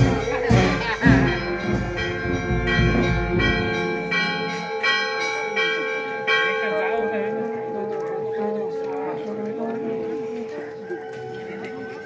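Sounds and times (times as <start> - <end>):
church bell ringing: 0.0 - 12.0.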